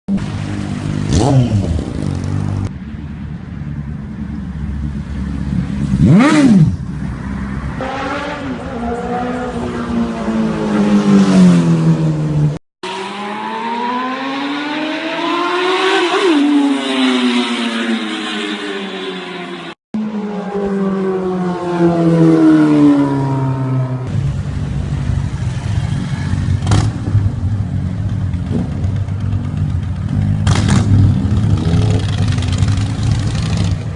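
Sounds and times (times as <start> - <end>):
motorcycle engine revving: 0.3 - 2.7, 4.9 - 24.4, 25.0 - 33.9.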